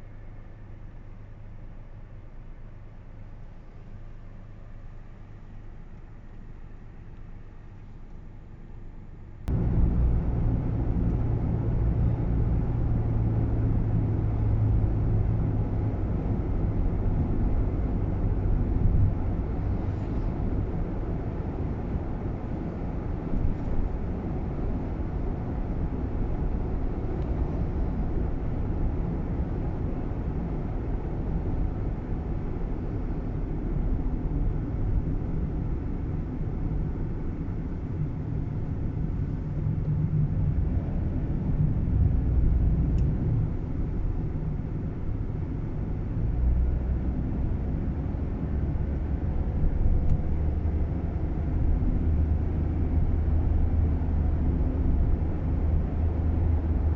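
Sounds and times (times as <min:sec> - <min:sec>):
road and engine rumble: 0:00.0 - 0:56.9.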